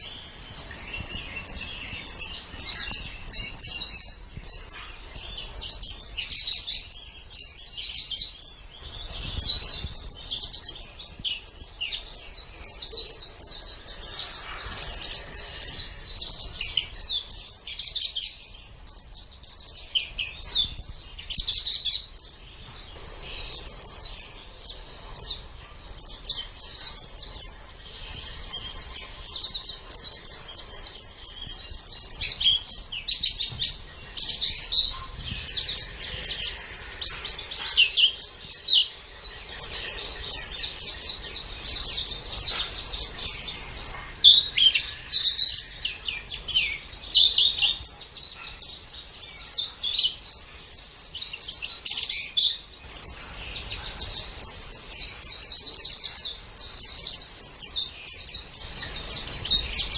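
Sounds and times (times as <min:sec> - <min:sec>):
bird twittering: 0:00.0 - 0:59.9.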